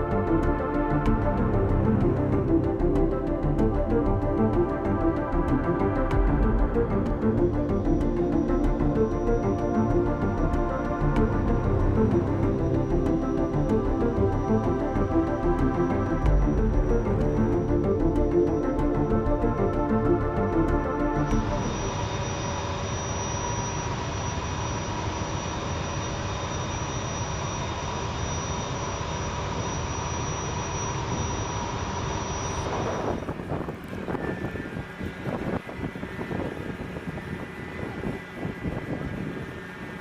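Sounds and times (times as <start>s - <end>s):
jet engines whining: 0.0s - 40.0s.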